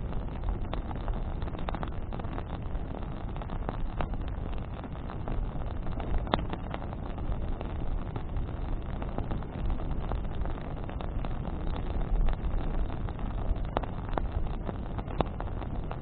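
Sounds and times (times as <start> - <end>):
campfire crackling: 0.0 - 16.0
fire popping: 0.0 - 16.0.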